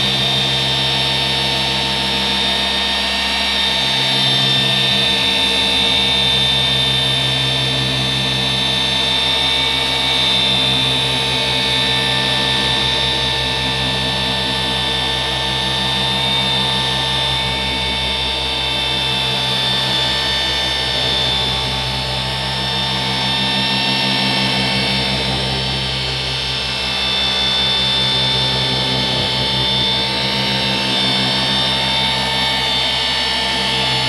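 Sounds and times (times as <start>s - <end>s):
polisher motor whining: 0.0s - 34.0s.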